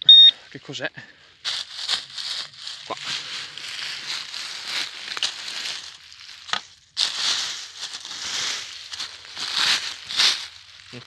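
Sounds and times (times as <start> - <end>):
dry leaves rustling and crunching: 1.4 - 11.0.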